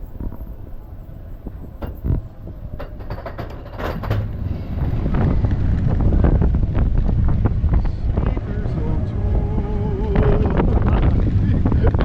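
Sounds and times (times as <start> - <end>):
roller coaster clattering on track: 0.0 - 12.0
rumble: 0.0 - 12.0
wind noise on microphone: 0.0 - 12.0.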